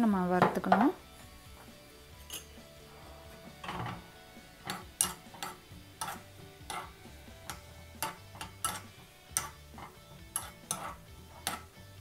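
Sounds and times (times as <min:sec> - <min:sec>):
metal spoon scraping a pan: 0:02.0 - 0:12.0.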